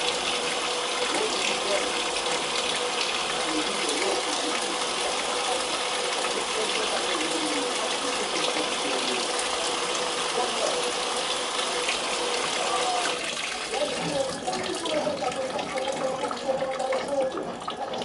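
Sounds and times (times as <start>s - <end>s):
water gushing into washing machine: 0.0s - 18.0s.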